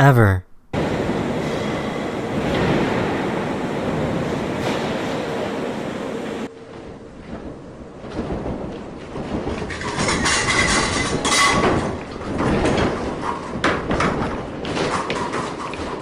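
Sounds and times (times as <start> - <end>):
building rattling and clattering: 1.0 - 16.0.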